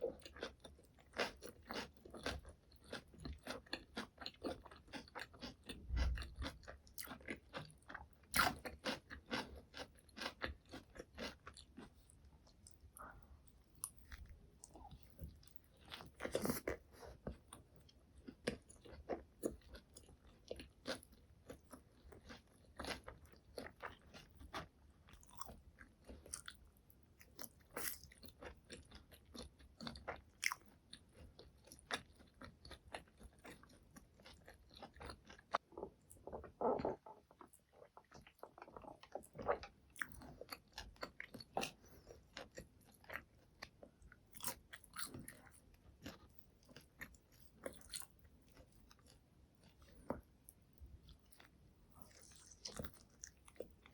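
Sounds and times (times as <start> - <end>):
close chewing and crunching food: 0.0 - 53.9.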